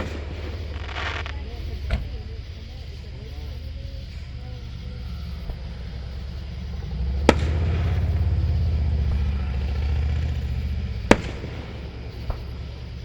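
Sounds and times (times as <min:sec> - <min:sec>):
firework bangs: 0:00.0 - 0:13.0
low steady rumble: 0:00.0 - 0:13.0.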